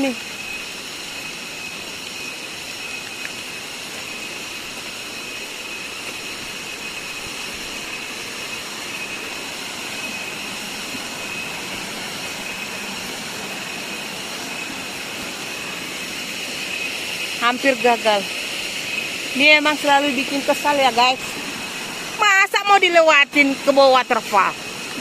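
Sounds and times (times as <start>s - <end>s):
falling water rushing: 0.0s - 25.0s
high-pitched whine: 0.0s - 25.0s.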